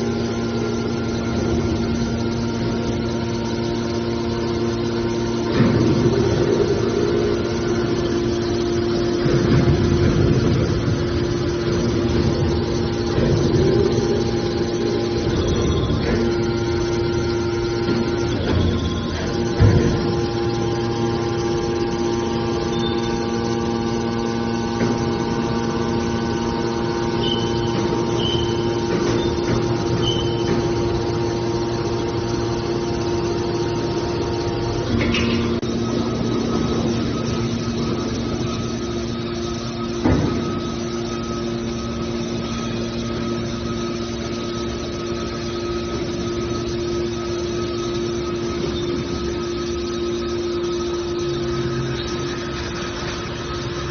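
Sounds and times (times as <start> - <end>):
hydraulic machine humming: 0.0 - 53.9.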